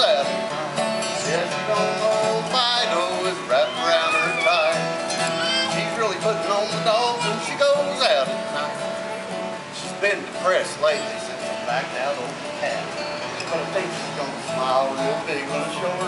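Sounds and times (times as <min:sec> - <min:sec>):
man singing: 0:00.0 - 0:09.0, 0:09.7 - 0:16.0
acoustic guitar strumming: 0:00.0 - 0:16.0.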